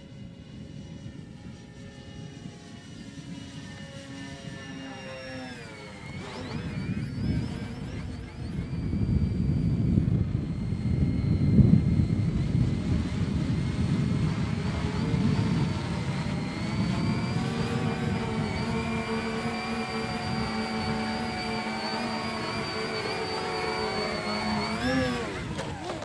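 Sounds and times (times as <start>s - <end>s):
model aircraft motors whining: 0.0s - 26.0s
wind buffeting microphone: 0.0s - 26.0s.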